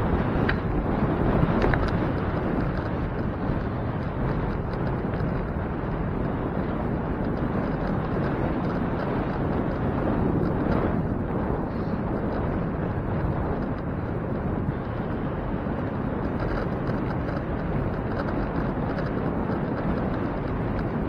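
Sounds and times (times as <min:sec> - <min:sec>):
road noise: 0:00.0 - 0:21.0
wind rushing over microphone: 0:00.0 - 0:21.0.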